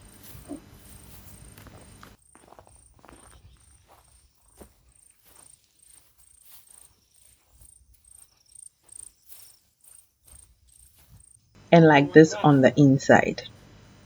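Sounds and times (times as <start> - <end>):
faint clicks and rustles: 0.0 - 11.8
cricket chirping: 0.0 - 14.0.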